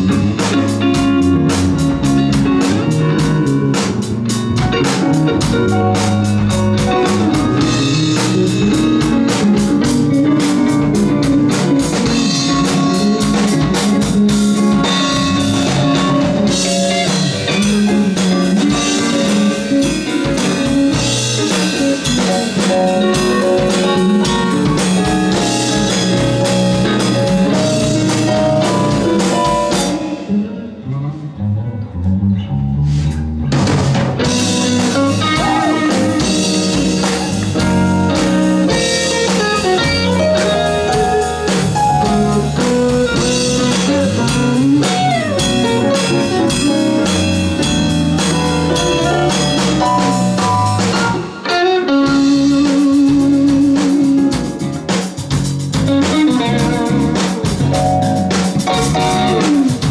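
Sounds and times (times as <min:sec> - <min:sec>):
drum kit: 0:00.0 - 0:32.2, 0:32.8 - 0:59.9
bass guitar: 0:00.0 - 0:59.9
electric guitar: 0:00.0 - 0:59.9
keyboard: 0:00.0 - 0:59.9.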